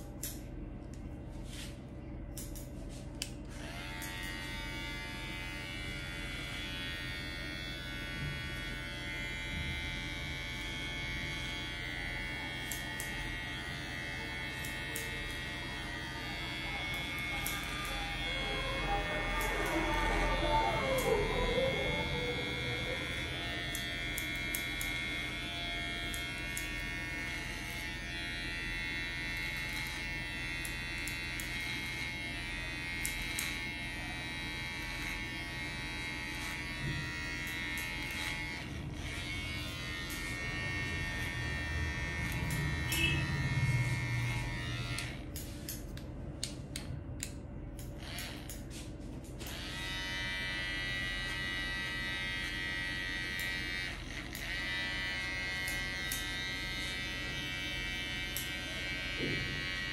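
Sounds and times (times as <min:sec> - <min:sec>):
electric hair clipper buzzing: 0:02.4 - 0:59.9.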